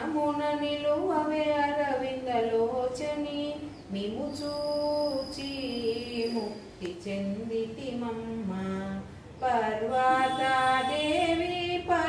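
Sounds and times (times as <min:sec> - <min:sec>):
woman singing devotional song: 0:00.0 - 0:12.0.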